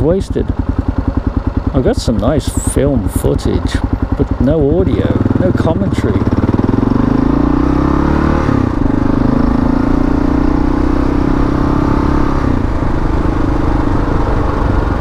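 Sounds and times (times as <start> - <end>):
motorcycle engine pulling away: 0.6 - 15.0.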